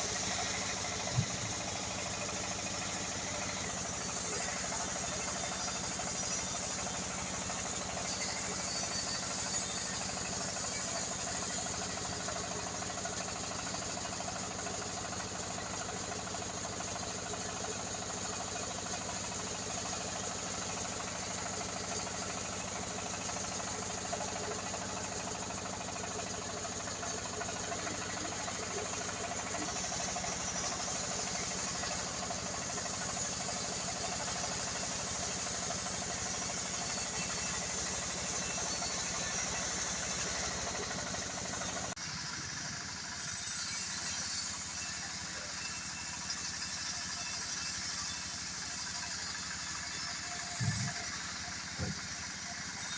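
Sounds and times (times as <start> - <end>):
sawmill machinery droning: 0.0 - 52.9.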